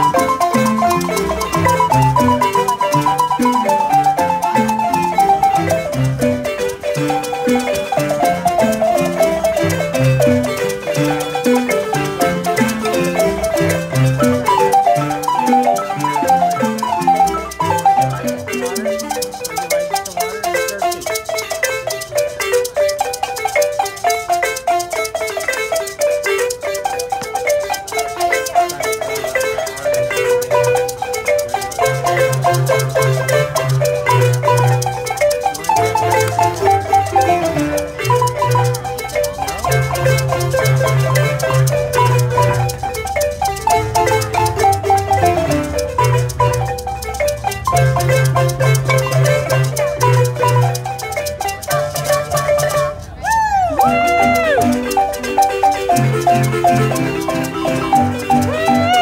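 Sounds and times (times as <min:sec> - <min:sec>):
low bass marimba notes: 0:00.0 - 0:59.0
marimba ensemble playing: 0:00.0 - 0:59.0
shaker rattling: 0:00.0 - 0:59.0.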